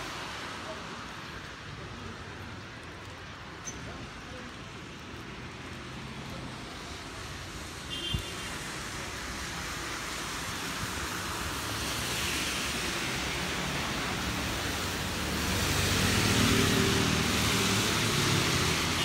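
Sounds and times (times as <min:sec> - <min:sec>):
car tyres on wet street: 0:00.0 - 0:19.0
rain hiss: 0:00.0 - 0:19.0.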